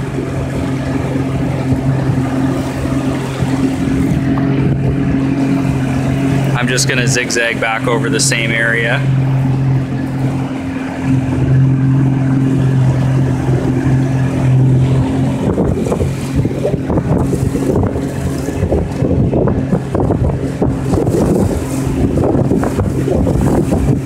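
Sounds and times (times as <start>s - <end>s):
outboard motor running: 0.0s - 24.0s
wind buffeting microphone: 0.0s - 24.0s.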